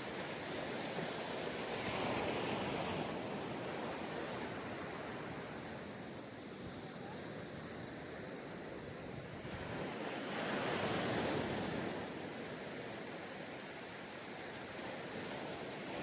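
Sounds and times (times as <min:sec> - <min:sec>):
sea waves breaking on a beach: 0:00.0 - 0:16.0.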